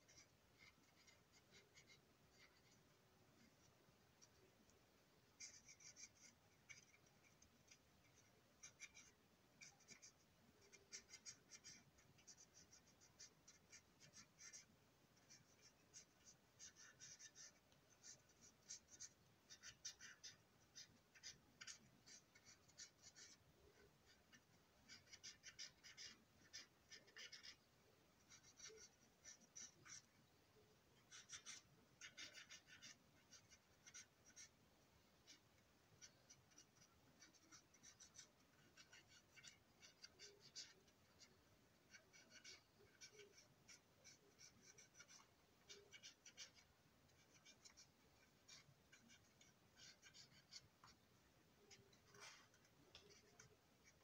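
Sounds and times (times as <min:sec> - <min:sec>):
scratchy strokes on ribbed plastic: 0:00.0 - 0:54.0.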